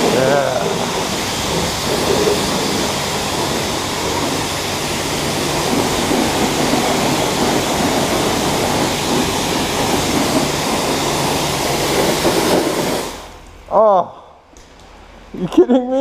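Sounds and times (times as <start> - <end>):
pressure washer spraying water: 0.0 - 13.7.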